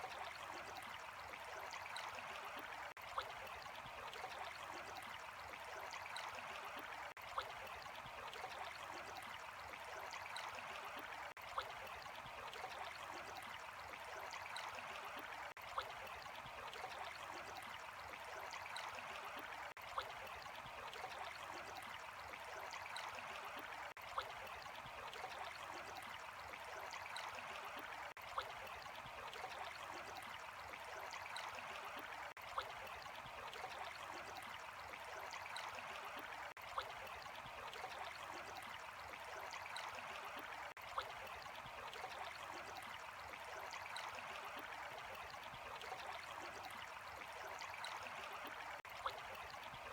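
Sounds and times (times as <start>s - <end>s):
running and trickling water: 0.0s - 49.9s.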